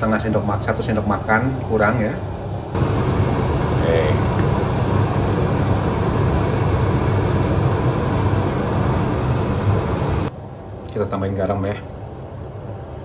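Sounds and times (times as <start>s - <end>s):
whooshing rumble with low hum: 0.0s - 10.9s.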